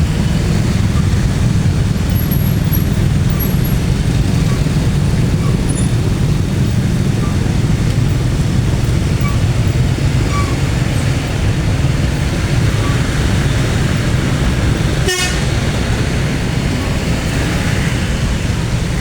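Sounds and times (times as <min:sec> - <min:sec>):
train passing rumble: 0:00.0 - 0:19.0.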